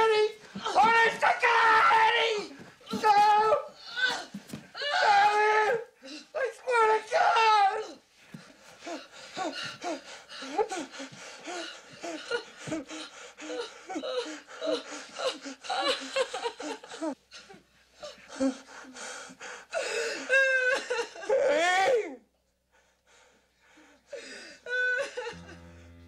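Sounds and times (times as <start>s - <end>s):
woman sobbing hysterically: 0.5s - 8.0s, 8.8s - 19.0s, 19.7s - 22.2s, 24.1s - 25.4s.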